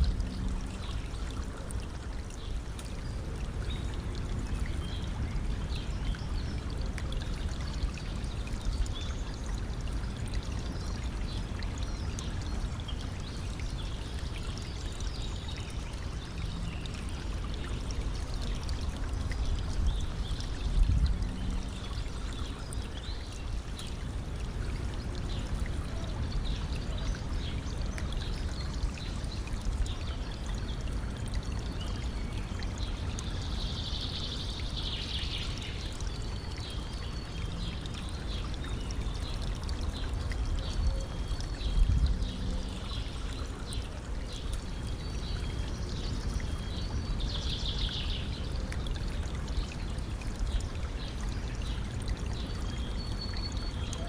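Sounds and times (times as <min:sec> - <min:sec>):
stream water pouring over stones: 0:00.0 - 0:54.0.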